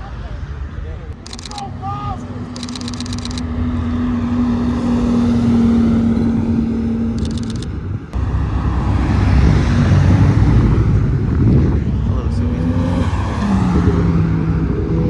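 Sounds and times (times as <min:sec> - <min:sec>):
car engines humming: 0:00.0 - 0:15.0
deep exhaust rumble: 0:02.6 - 0:15.0.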